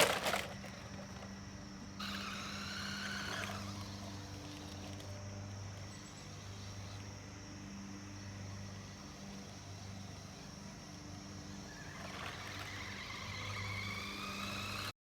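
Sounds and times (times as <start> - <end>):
toy electric motor whining: 0.0 - 1.3, 1.9 - 7.2, 8.6 - 15.0.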